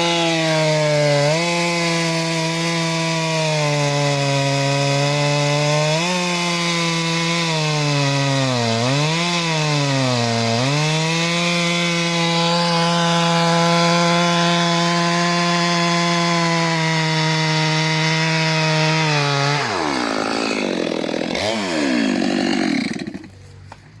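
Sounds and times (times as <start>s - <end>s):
chainsaw cutting through log: 0.0s - 23.5s.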